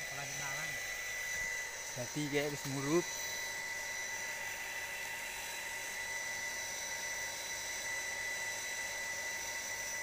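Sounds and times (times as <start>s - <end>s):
water pump motor whining: 0.0s - 10.0s.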